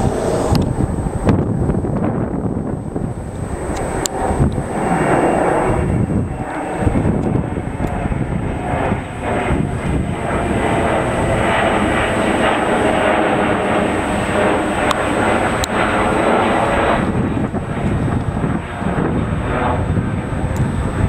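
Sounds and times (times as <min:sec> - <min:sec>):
jet engines rumbling overhead: 0:00.0 - 0:21.0.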